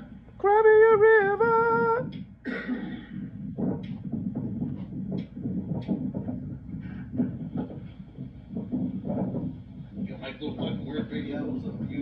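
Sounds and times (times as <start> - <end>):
low uneven throbbing rumble: 0.0 - 12.0.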